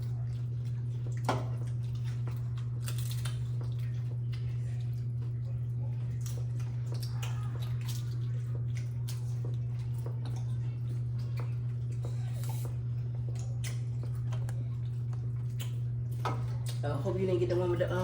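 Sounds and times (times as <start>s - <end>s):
people crunching nachos: 0.0s - 17.6s
steady low hum: 0.0s - 18.0s.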